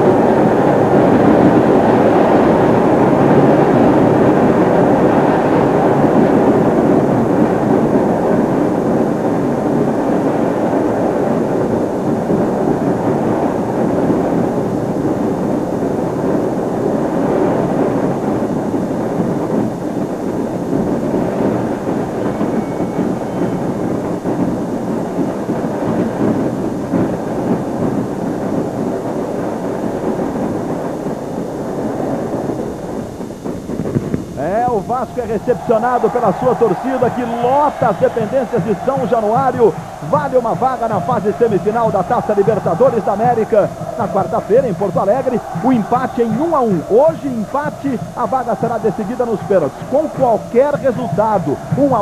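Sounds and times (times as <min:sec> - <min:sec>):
stadium crowd cheering: 0:00.0 - 0:15.0, 0:16.2 - 0:31.6, 0:34.4 - 0:52.0.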